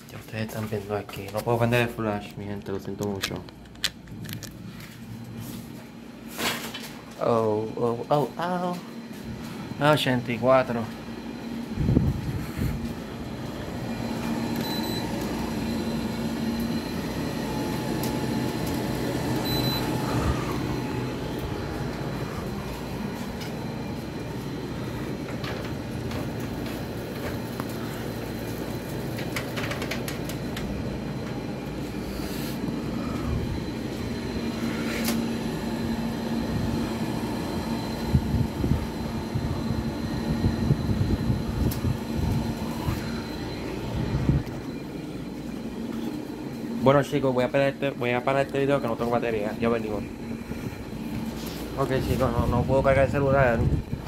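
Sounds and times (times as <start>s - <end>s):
air conditioner fan rush: 0.0s - 54.0s
low hum: 3.4s - 54.0s.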